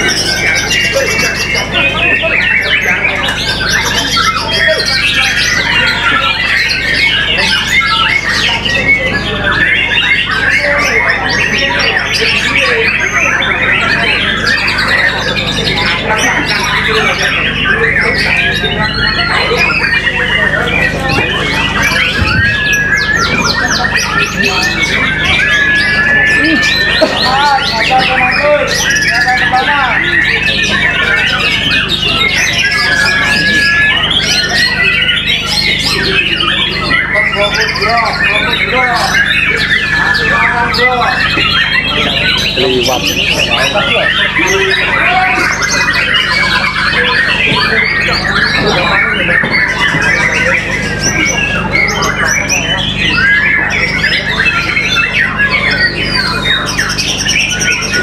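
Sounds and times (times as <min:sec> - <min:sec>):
songbirds singing chorus: 0:00.0 - 0:58.0.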